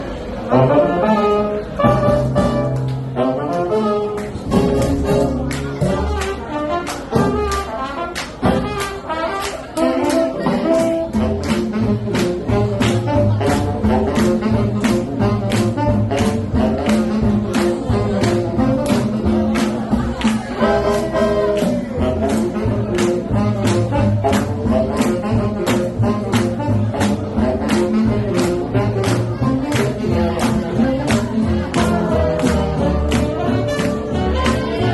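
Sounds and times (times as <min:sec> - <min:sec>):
swing jazz with brass horns: 0:00.3 - 0:34.9.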